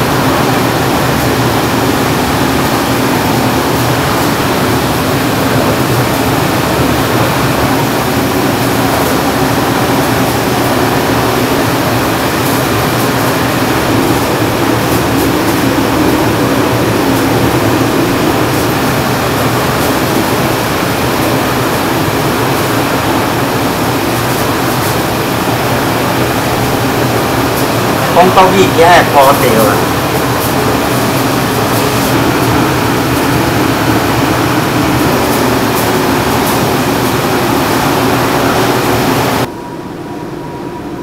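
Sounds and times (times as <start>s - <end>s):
machine air rush: 0.0s - 40.4s
low machine hum: 0.0s - 41.0s.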